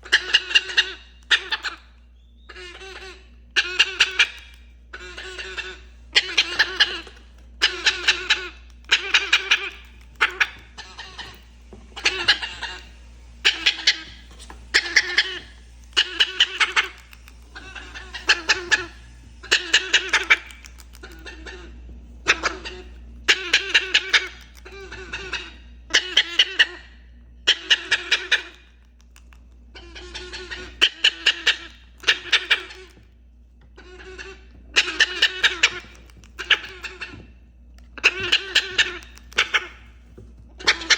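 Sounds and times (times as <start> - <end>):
parrot chuckling call: 0.0 - 11.4, 12.0 - 26.8, 27.5 - 28.7, 29.8 - 33.0, 33.7 - 37.2, 37.8 - 39.9, 40.5 - 40.9.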